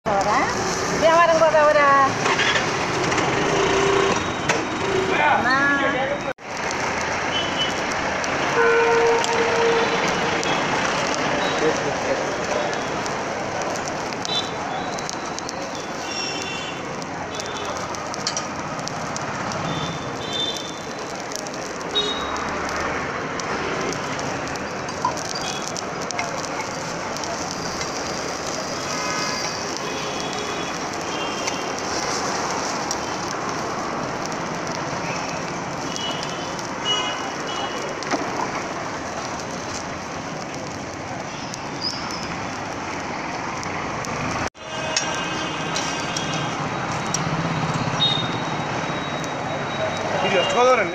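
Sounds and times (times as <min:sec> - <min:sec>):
food sizzling on a hot griddle: 0:00.1 - 0:04.0, 0:06.4 - 0:50.9.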